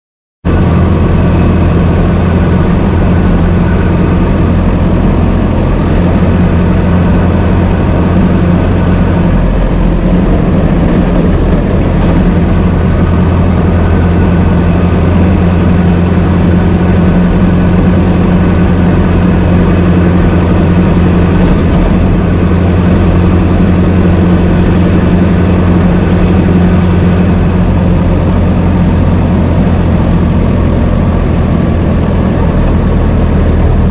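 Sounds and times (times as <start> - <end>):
old car engine running: 0.4 - 33.9.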